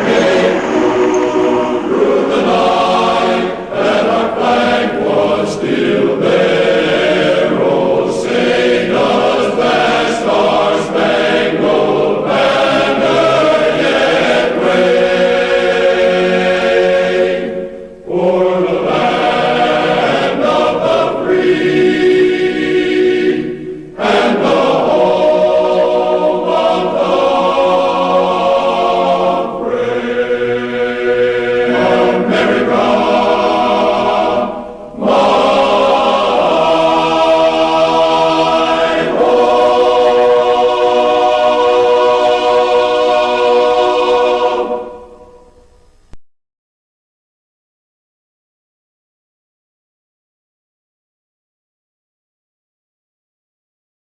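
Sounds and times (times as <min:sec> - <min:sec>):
choir singing sustained notes: 0:00.0 - 0:46.1.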